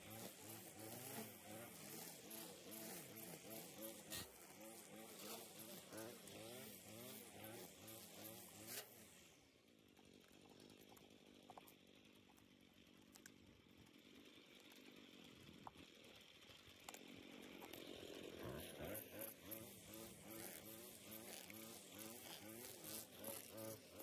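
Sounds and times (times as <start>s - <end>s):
string trimmer cutting grass: 0.0s - 12.9s, 13.8s - 24.0s.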